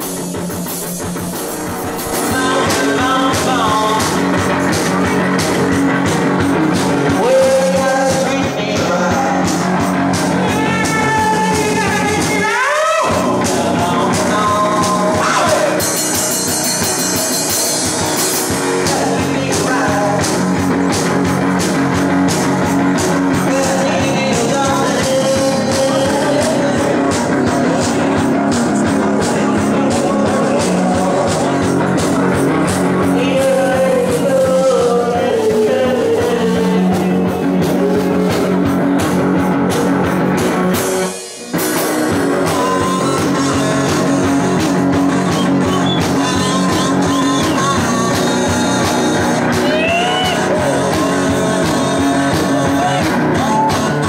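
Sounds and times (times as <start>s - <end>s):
electric guitar: 0.0s - 54.0s
person singing: 1.4s - 21.6s, 22.5s - 40.0s, 41.4s - 54.0s.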